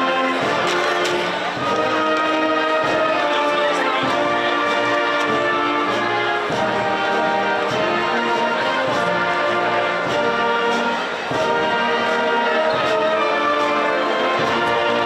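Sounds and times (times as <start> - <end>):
brass playing held chords: 0.0 - 15.0.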